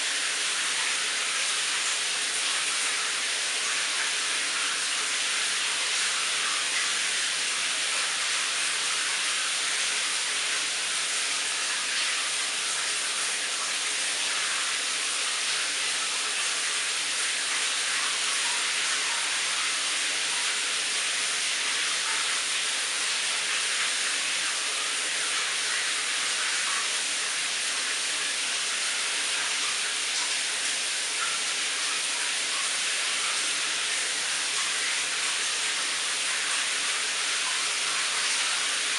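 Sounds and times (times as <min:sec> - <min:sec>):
shower water spraying: 0:00.0 - 0:38.9.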